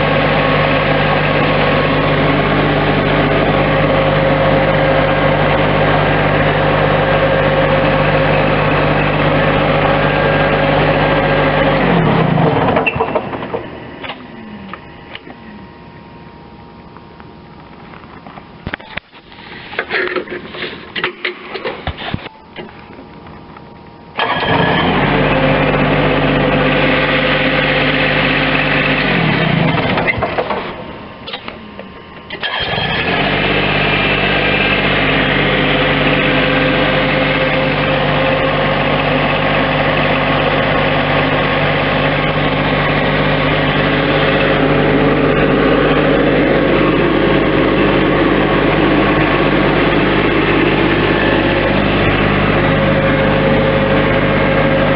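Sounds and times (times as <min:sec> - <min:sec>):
diesel engine starting and running: 0:00.0 - 0:54.9
engine shutting off: 0:00.0 - 0:54.9.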